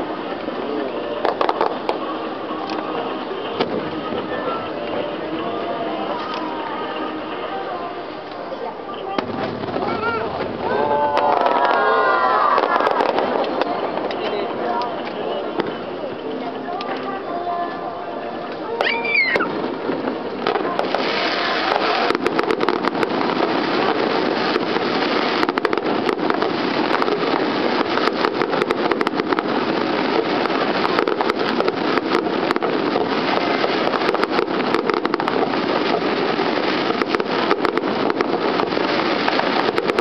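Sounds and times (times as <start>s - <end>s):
fireworks crackling and banging: 0.0s - 40.0s.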